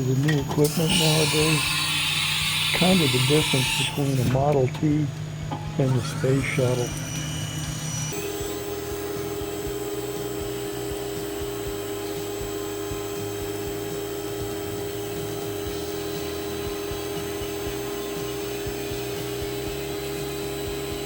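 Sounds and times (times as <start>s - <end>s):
milling machine humming: 0.0s - 21.0s.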